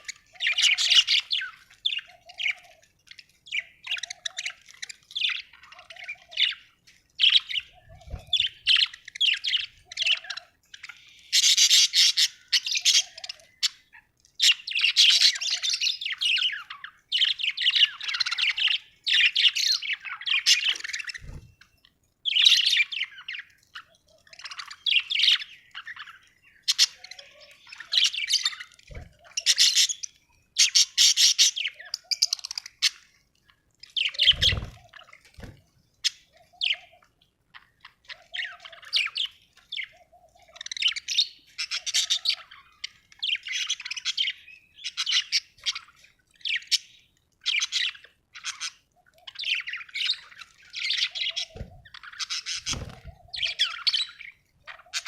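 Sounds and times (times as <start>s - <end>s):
budgies chirping and chattering: 0.0s - 55.0s.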